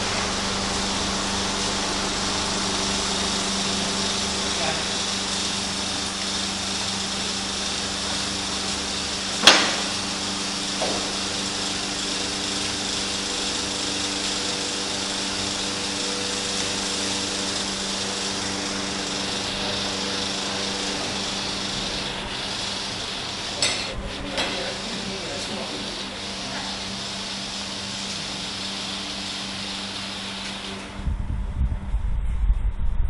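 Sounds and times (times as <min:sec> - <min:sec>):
foundry machinery hum: 0:00.0 - 0:33.0.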